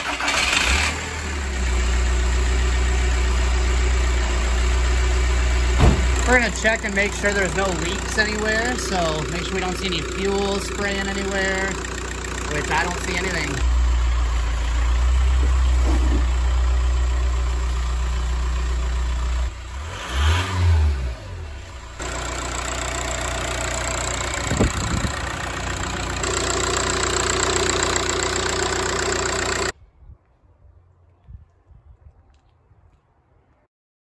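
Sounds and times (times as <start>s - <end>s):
diesel engine idling: 0.0s - 29.8s.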